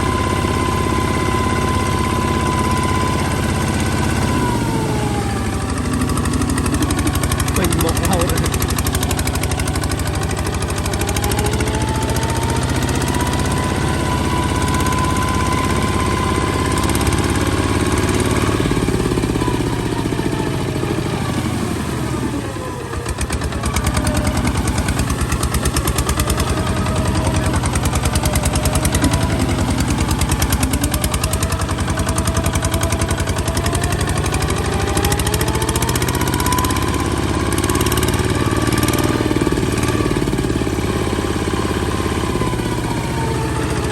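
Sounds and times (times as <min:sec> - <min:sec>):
diesel engine knocking: 0:03.3 - 0:21.4, 0:22.0 - 0:43.9.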